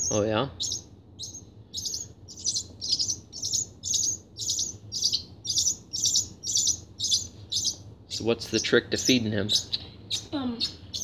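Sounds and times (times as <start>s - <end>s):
baby bird begging chirps: 0.0s - 11.0s.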